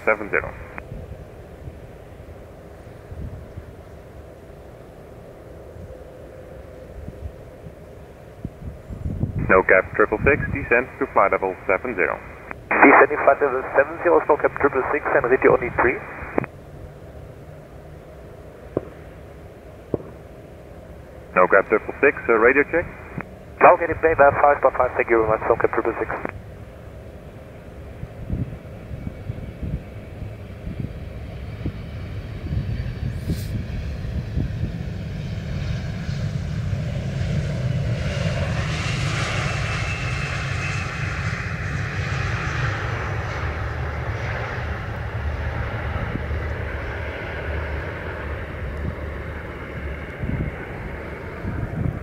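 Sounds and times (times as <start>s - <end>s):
jet engines landing: 0.0s - 52.0s.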